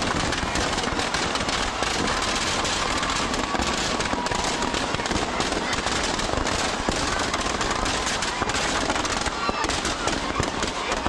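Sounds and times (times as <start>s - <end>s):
firecrackers crackling and popping: 0.0s - 11.0s.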